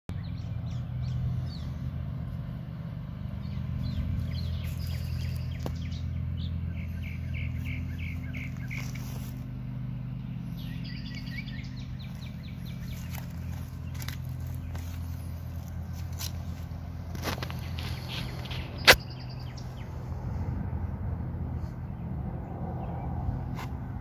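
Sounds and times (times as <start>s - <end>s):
songbirds chirping: 0.1s - 24.0s
steady low hum: 0.2s - 24.0s.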